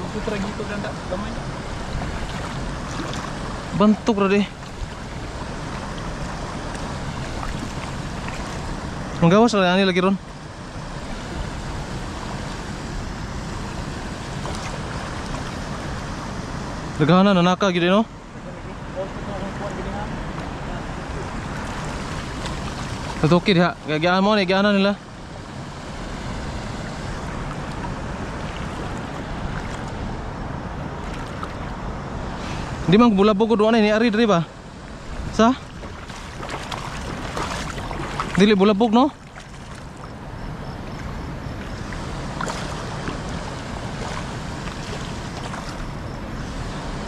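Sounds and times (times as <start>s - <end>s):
wind rumble on microphone: 0.0s - 17.2s, 19.3s - 47.0s
water rushing through channel: 0.0s - 47.0s.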